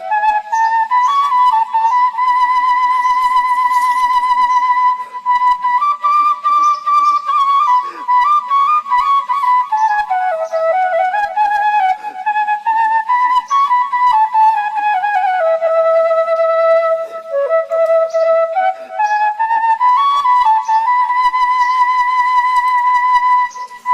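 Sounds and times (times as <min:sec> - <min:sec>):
solo flute melody: 0:00.0 - 0:23.9.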